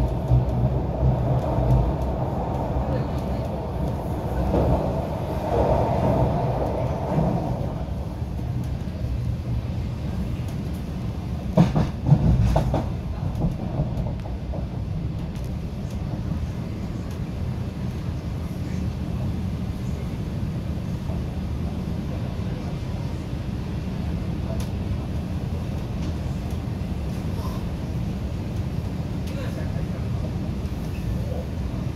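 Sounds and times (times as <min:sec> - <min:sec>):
train rumbling along track: 0:00.0 - 0:31.9.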